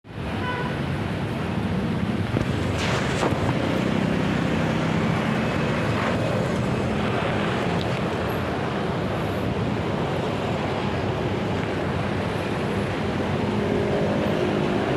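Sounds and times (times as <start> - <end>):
traffic engines running: 0.1 - 14.9.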